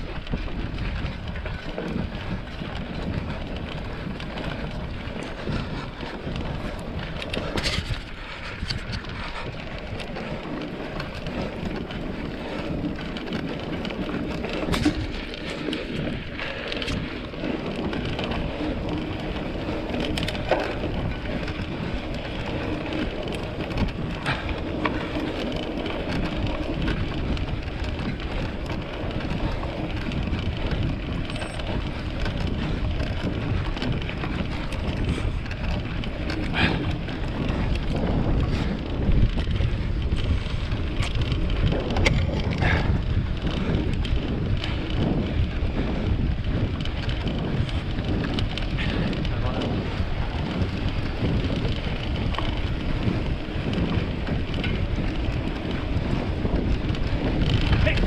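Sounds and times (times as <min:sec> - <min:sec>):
tyres rumbling on trail: 0:00.0 - 0:58.0
wind buffeting microphone: 0:00.0 - 0:58.0.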